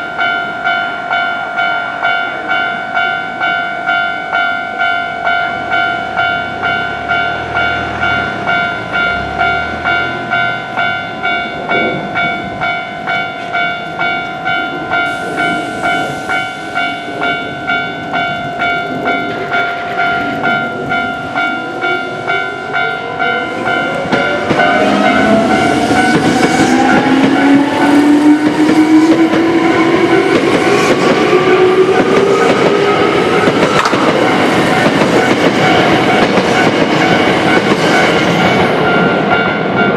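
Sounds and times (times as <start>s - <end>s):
electric train passing: 0.0s - 39.9s
railroad crossing bell ringing: 0.0s - 39.9s
rising train whine: 0.0s - 39.9s.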